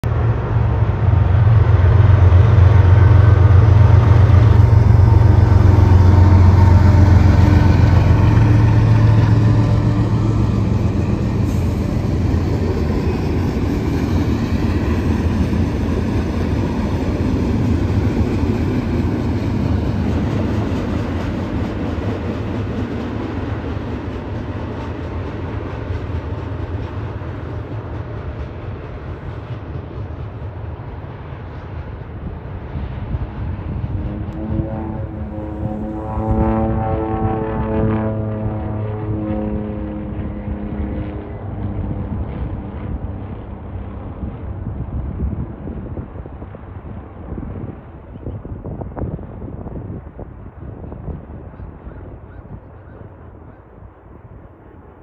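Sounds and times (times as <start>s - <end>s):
diesel locomotive engine hum: 0.0s - 55.0s.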